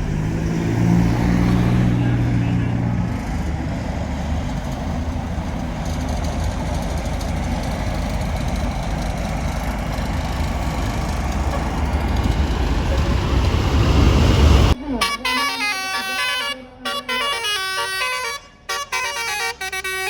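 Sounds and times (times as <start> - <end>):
bus engine rumbling: 0.0 - 20.0.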